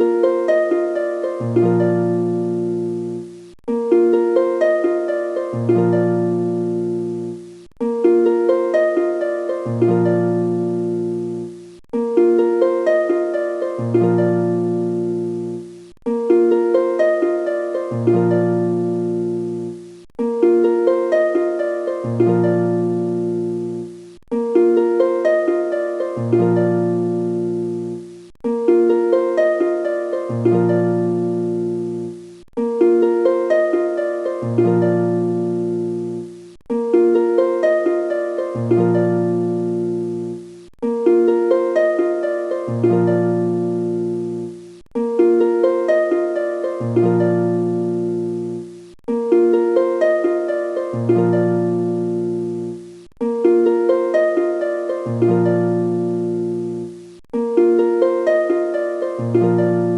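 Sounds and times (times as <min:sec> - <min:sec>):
looped plucked-string music: 0:00.0 - 0:59.9.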